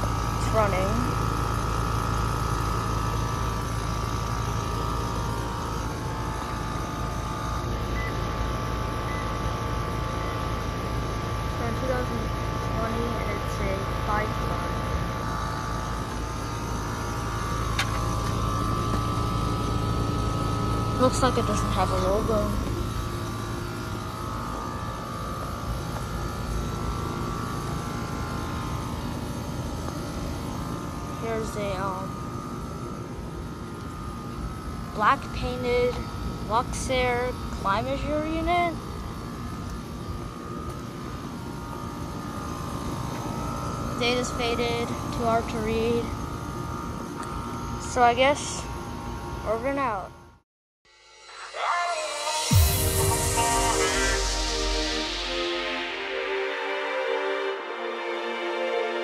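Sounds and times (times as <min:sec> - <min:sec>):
low hum: 0:00.0 - 0:49.6, 0:50.9 - 0:59.0
air conditioner condenser fan rushing: 0:00.0 - 0:50.3
faint steady whine: 0:00.0 - 0:50.4, 0:51.0 - 0:59.0.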